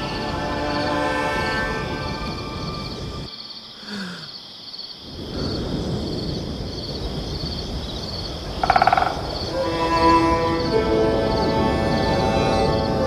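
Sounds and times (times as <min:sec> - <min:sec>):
crickets chirping: 0:00.0 - 0:13.0
low night-time background: 0:00.0 - 0:13.0.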